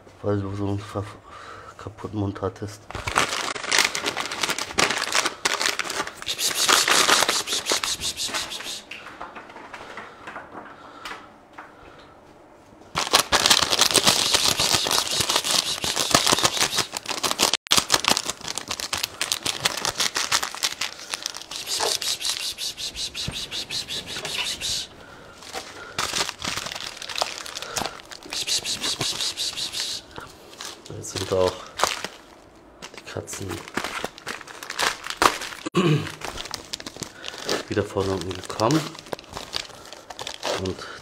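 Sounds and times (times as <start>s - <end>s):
plastic bag crinkling and rattling: 2.9s - 8.6s, 12.9s - 22.7s, 23.5s - 41.0s.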